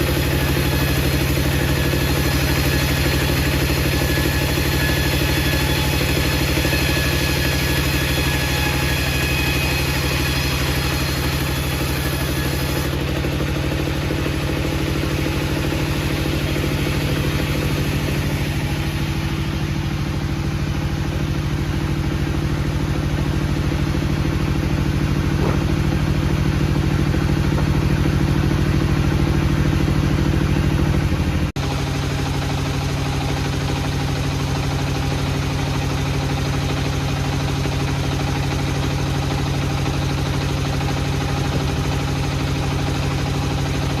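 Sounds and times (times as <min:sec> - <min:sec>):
heavy machinery engine running: 0:00.0 - 0:44.0.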